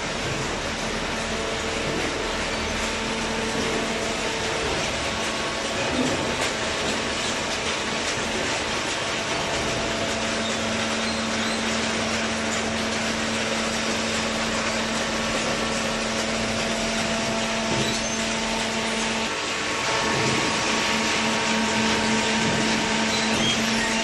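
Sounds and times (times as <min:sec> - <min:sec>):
baler machine hum: 0:00.0 - 0:24.0.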